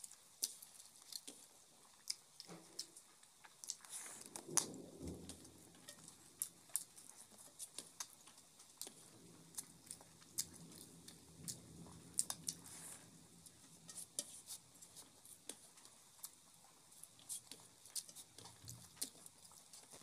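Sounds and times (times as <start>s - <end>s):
chewing and mouth smacks: 0.0s - 20.0s.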